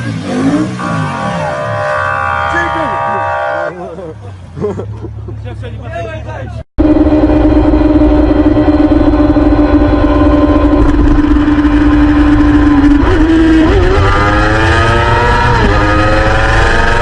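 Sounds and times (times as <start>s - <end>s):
motorcycle engine accelerating: 0.0s - 3.7s, 6.8s - 17.0s.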